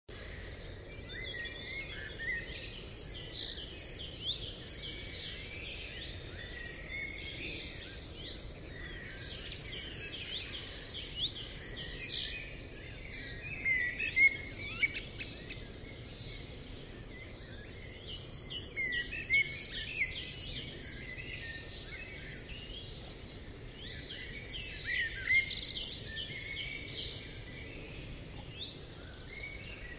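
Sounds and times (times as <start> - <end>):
songbirds chirping: 0.1 - 29.9.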